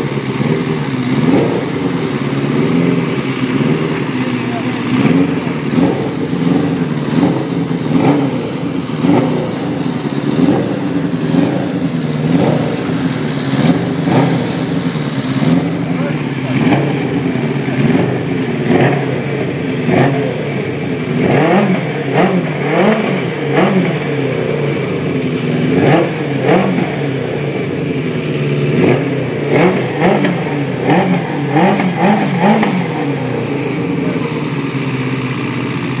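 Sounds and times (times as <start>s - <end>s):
engine revving: 0.0s - 36.0s
motorcycle engine idling: 0.0s - 36.0s.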